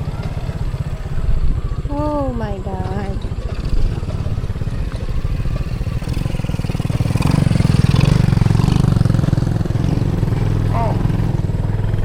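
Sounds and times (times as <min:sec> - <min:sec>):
vehicle engine running while driving: 0:00.0 - 0:12.0.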